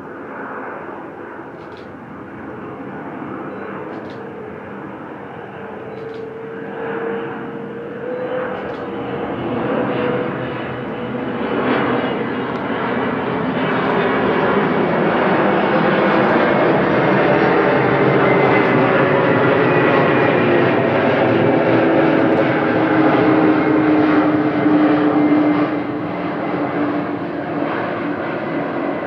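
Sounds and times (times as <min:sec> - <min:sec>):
jet airliner engine whine: 0:00.0 - 0:29.0.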